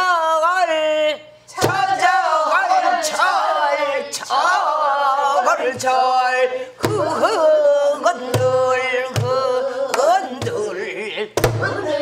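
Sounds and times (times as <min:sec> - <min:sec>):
woman singing with vibrato: 0:01.5 - 0:12.0.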